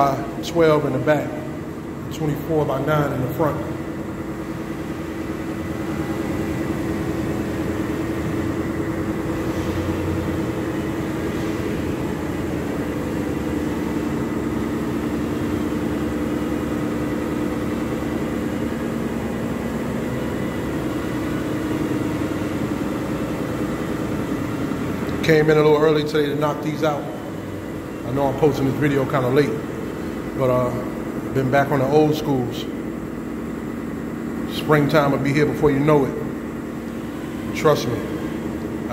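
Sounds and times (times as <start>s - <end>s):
machine drone with low hum: 0.0s - 38.9s.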